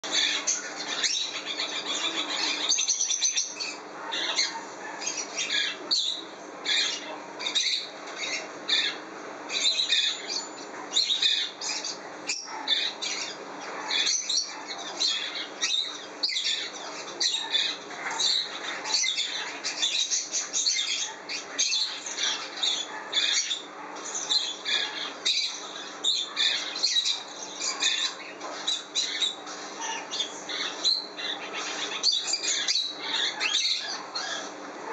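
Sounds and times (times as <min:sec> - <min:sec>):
birds chirping and squawking: 0:00.0 - 0:34.9.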